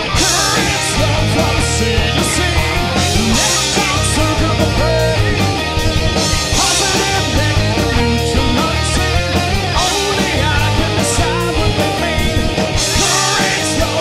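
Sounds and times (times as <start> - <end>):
drum kit with cymbals: 0.0 - 14.0
electric guitars: 0.0 - 14.0
heavy bass line: 0.0 - 14.0.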